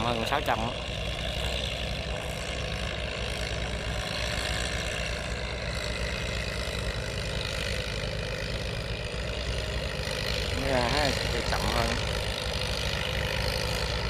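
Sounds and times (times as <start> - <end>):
tractor diesel engines droning: 0.0 - 14.0.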